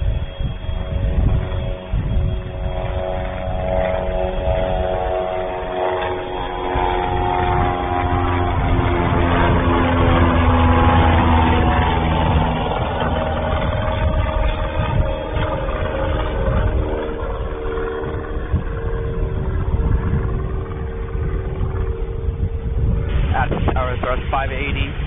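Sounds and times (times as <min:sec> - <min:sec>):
propeller airplane engine droning: 0:00.0 - 0:25.0.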